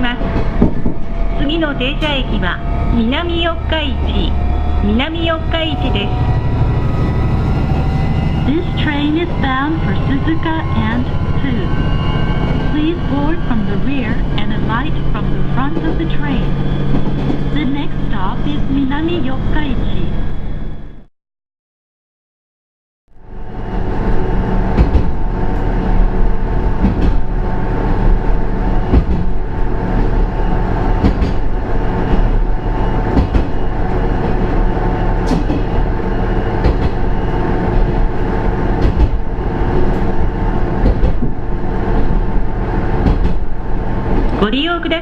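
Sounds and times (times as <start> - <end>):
diesel railcar engine running: 0.0 - 21.1, 23.2 - 45.0.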